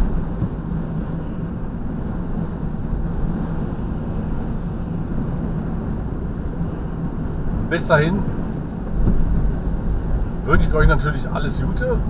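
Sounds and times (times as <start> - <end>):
road noise: 0.0 - 12.0
van engine hum: 0.0 - 12.0.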